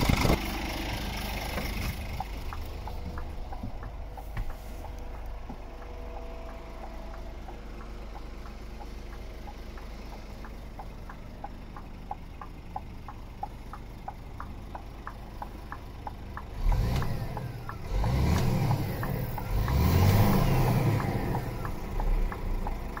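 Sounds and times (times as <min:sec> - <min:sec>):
engine revving: 0:00.0 - 0:12.4, 0:15.7 - 0:23.0
truck diesel engine idling: 0:00.0 - 0:23.0
hazard light flasher ticking: 0:00.4 - 0:23.0.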